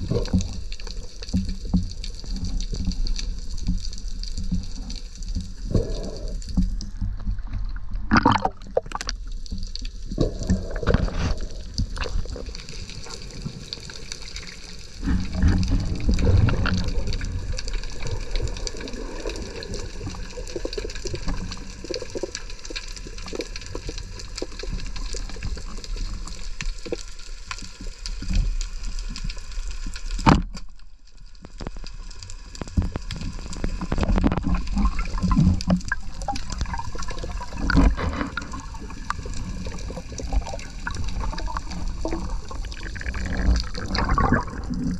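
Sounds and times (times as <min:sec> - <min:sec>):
water sloshing and gurgling: 0:00.0 - 0:44.9.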